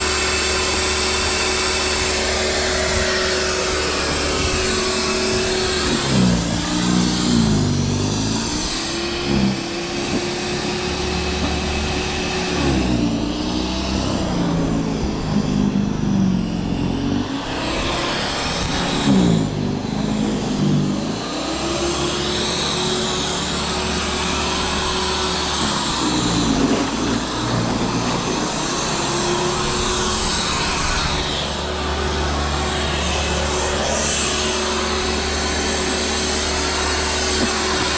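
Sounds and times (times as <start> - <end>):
vehicle engine revving: 0.0 - 37.9.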